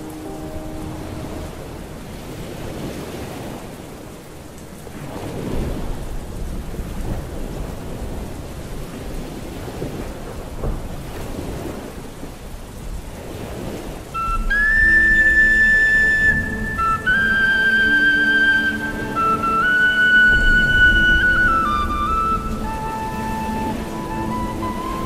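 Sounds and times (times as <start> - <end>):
steady rain: 0.0 - 25.0
rolling thunder: 4.9 - 25.0.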